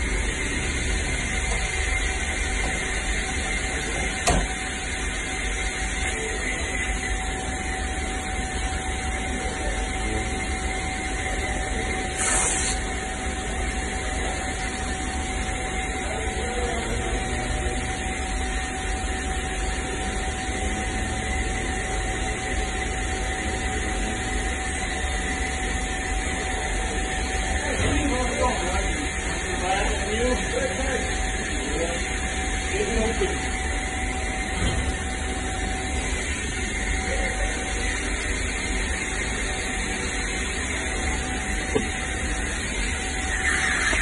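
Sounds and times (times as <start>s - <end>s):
machinery hum and hiss: 0.0s - 44.0s.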